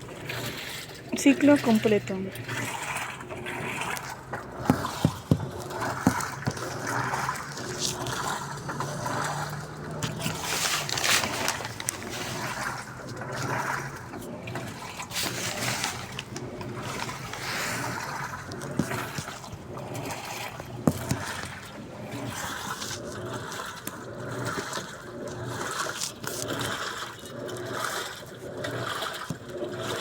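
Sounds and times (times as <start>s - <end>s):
water sloshing in washing machine: 0.0s - 30.0s.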